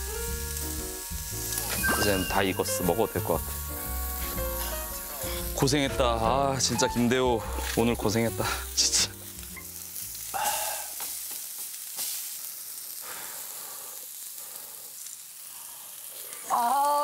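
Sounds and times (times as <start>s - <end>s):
meat sizzling on stone grill: 0.0s - 17.0s.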